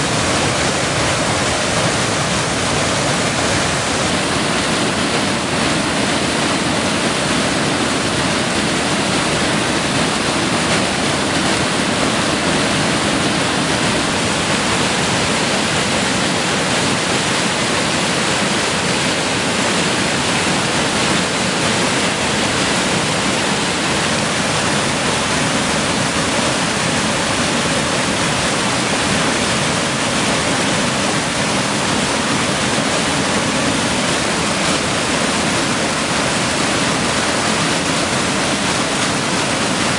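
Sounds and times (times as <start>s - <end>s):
water rushing over waterfall: 0.0s - 39.9s.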